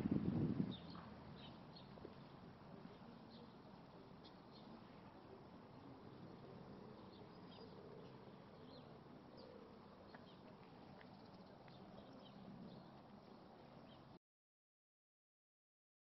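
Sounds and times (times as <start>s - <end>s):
faint small birds chirping: 0.6s - 14.2s.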